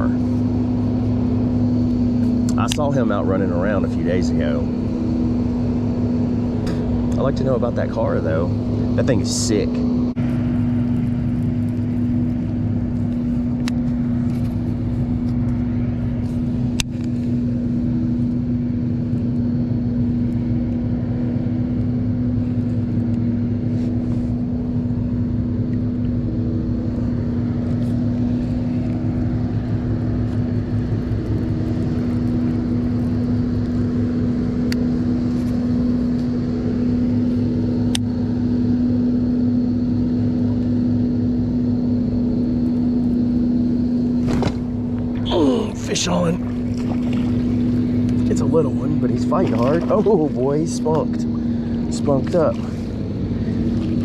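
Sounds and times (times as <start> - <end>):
steady motor hum: 0.0 - 54.0.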